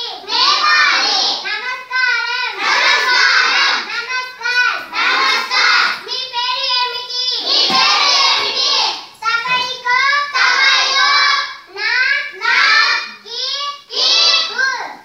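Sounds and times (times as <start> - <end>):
children chanting together: 0.0 - 15.0.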